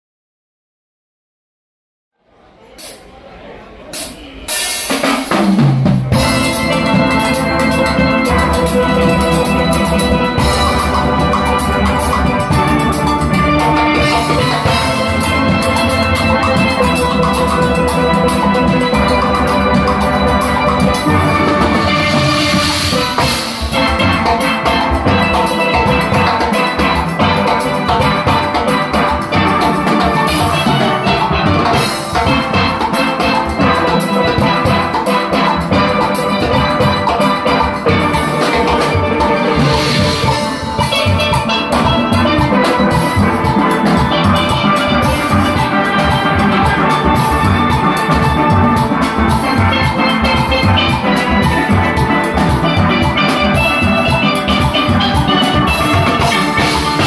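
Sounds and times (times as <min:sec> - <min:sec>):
steady drum beat: 0:03.9 - 0:57.0
steel pans playing melody: 0:04.5 - 0:57.0.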